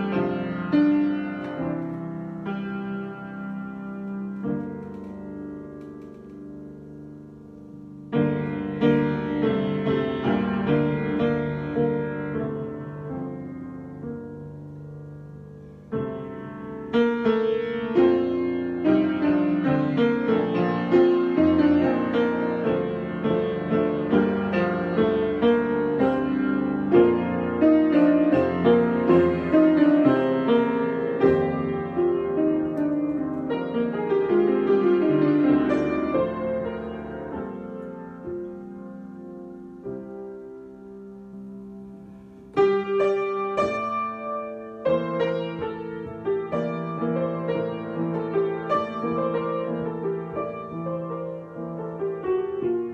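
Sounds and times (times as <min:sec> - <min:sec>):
loud piano chord: 0:00.0 - 0:52.9
solo piano improvisation: 0:00.0 - 0:52.9.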